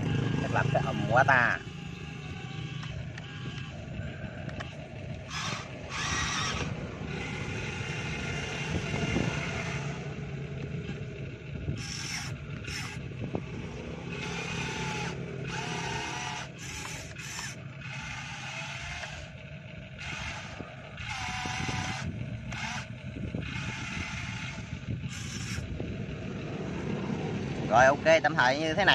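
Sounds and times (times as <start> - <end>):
toy motors whirring: 0.0 - 26.2
steady low hum: 0.0 - 28.9.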